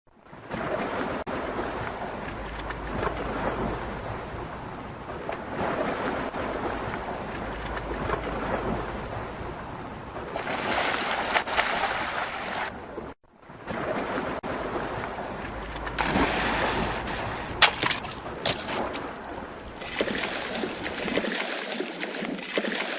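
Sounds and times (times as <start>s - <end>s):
rushing river water: 0.2s - 22.9s
wind buffeting microphone: 0.5s - 11.4s, 12.0s - 21.2s.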